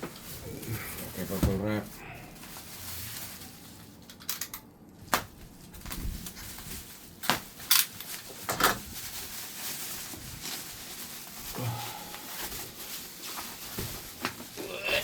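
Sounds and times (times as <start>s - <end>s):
bubble wrap rustling and crackling: 0.0s - 4.3s, 5.0s - 15.0s.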